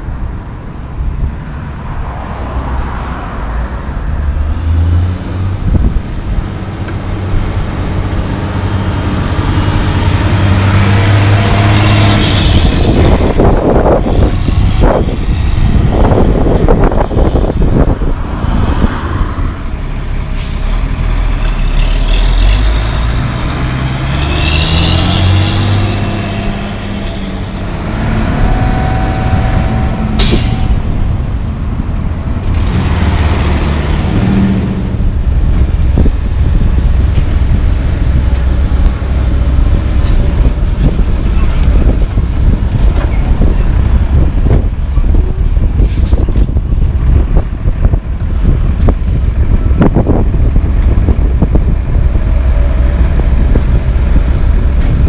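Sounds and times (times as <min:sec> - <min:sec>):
diesel truck engine driving past: 0:04.2 - 0:55.0.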